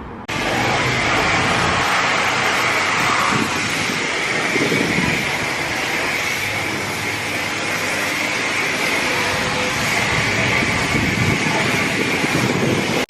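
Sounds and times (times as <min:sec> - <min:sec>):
high-pressure water spray hissing: 0:00.3 - 0:13.0.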